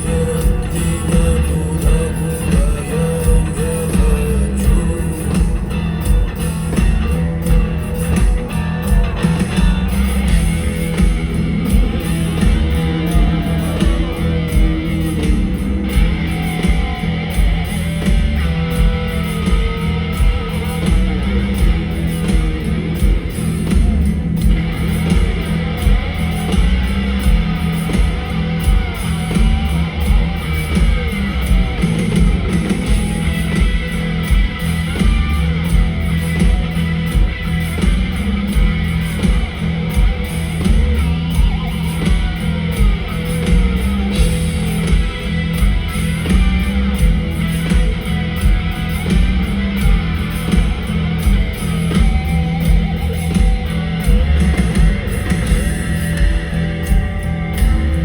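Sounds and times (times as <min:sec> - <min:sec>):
electric guitar: 0:00.0 - 0:58.0
rock band playing live: 0:00.0 - 0:58.0
steady drum beat: 0:00.0 - 0:58.0.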